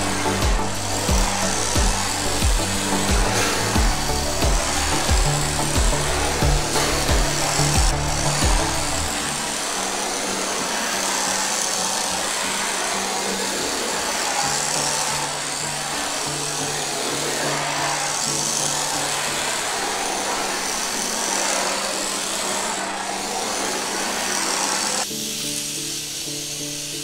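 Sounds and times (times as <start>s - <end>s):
background music: 0.0s - 27.0s
small electric motor whining: 0.0s - 27.0s.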